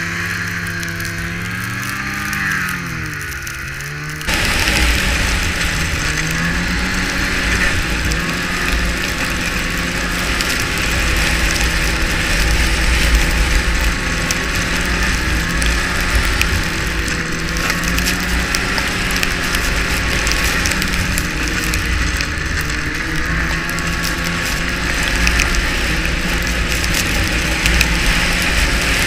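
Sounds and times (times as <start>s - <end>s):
snowmobile engine cruising: 0.0s - 29.0s.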